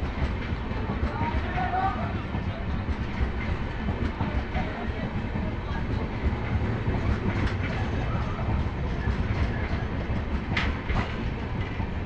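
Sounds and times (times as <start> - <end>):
clicks of wheels on rails: 0.0 - 12.0
train wheels rumbling on track: 0.0 - 12.0.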